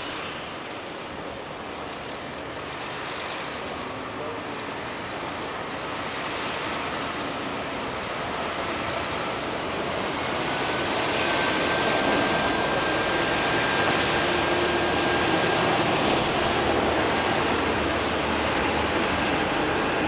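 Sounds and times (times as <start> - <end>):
diesel railcar running: 0.0 - 20.0.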